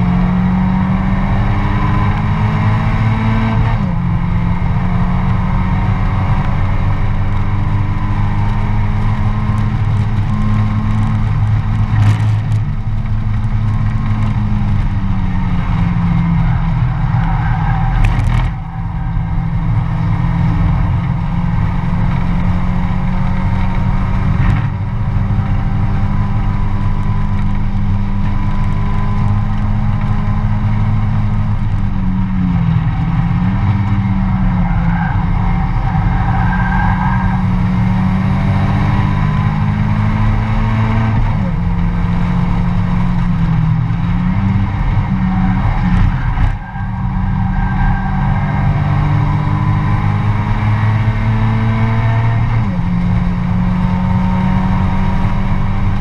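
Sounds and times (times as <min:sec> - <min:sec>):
race car engine droning: 0:00.0 - 0:56.0.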